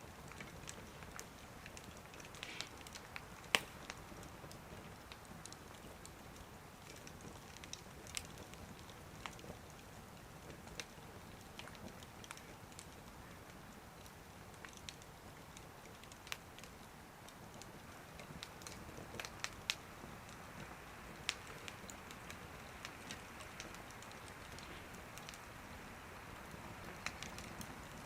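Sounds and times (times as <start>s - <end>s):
wood fire crackling and popping: 0.0s - 28.0s
fire hissing: 0.5s - 28.0s.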